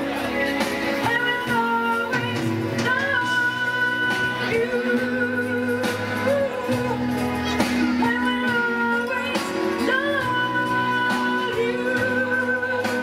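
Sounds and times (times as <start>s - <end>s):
amplified instrumental backing music: 0.0s - 13.0s
woman singing into microphone: 0.0s - 13.0s.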